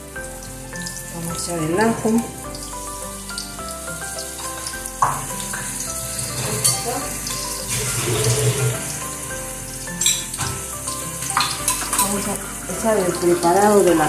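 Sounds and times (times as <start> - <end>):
background music with held notes: 0.0 - 14.0
garlic sizzling: 0.0 - 14.0
onion frying in oil: 0.0 - 14.0.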